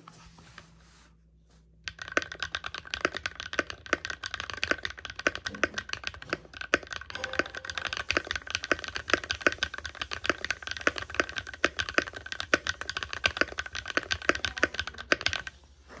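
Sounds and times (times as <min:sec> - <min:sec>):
mechanical keyboard typing: 0:01.8 - 0:15.6.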